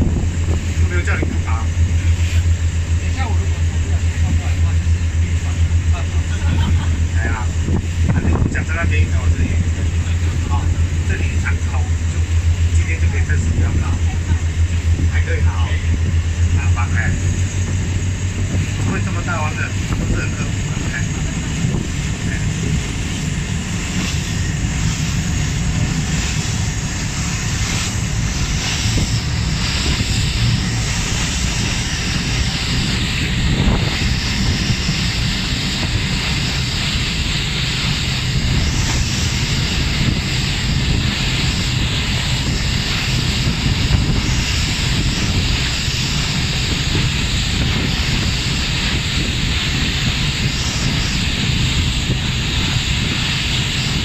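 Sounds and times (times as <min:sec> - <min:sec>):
ferry engines droning: 0:00.0 - 0:54.0
water rushing along hull: 0:00.0 - 0:54.0.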